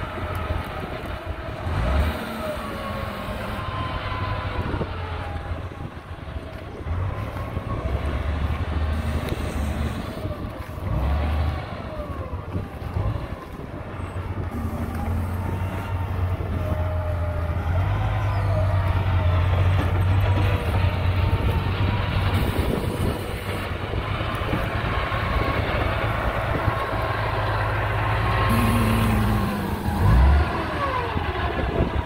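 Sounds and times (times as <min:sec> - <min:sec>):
diesel engine droning: 0:00.0 - 0:32.0.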